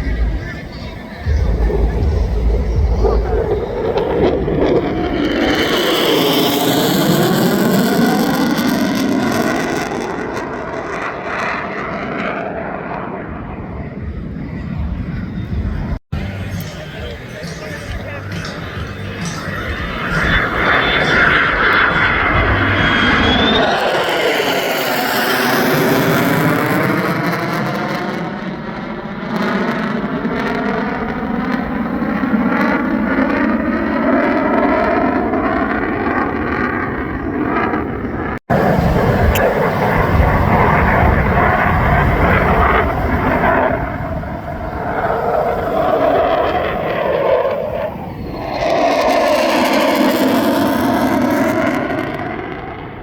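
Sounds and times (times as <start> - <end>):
jet engine roar: 0.0 - 53.0.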